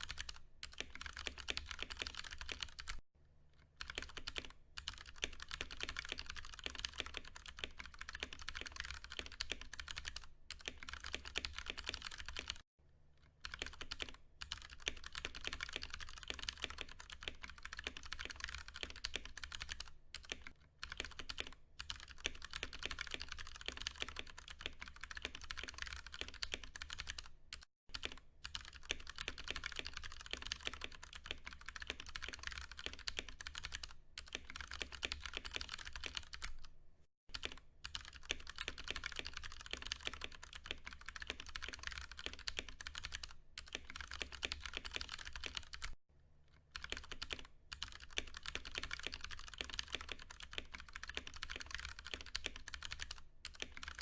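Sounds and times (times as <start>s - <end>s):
fast typing on mechanical keyboard: 0.0s - 3.0s, 3.8s - 12.6s, 13.4s - 36.7s, 37.3s - 46.0s, 46.6s - 54.0s.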